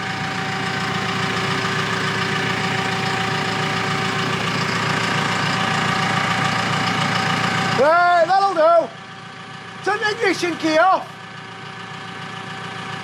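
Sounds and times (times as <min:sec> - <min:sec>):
forklift engine running: 0:00.0 - 0:13.0.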